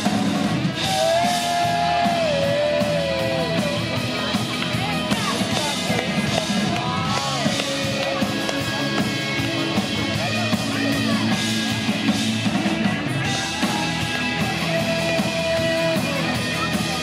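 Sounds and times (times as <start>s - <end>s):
drum kit: 0.0s - 17.0s.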